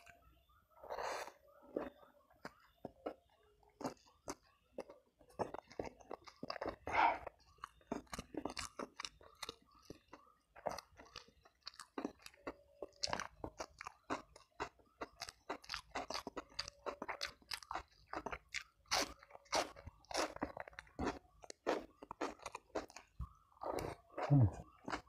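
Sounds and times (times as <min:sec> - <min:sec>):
person chewing crisp food: 0:00.8 - 0:25.0.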